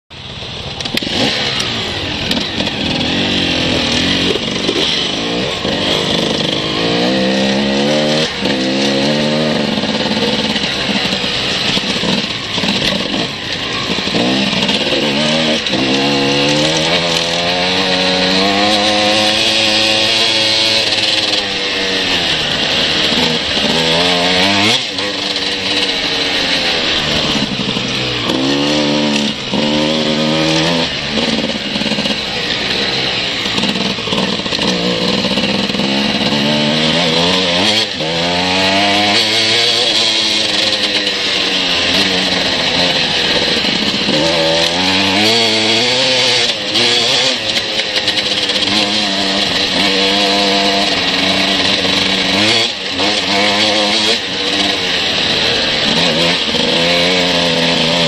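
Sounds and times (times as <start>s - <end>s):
dirt bike engine revving: 0.1s - 58.0s.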